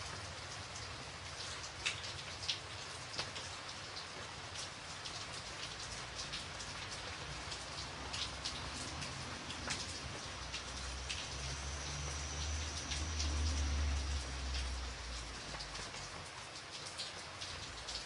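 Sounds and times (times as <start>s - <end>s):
raindrops ticking on a surface: 0.0s - 18.0s
steady rain: 0.0s - 18.0s.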